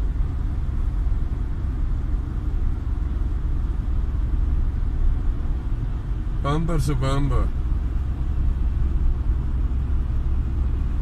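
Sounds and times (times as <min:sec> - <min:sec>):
engine and tyre rumble in car: 0:00.0 - 0:11.0.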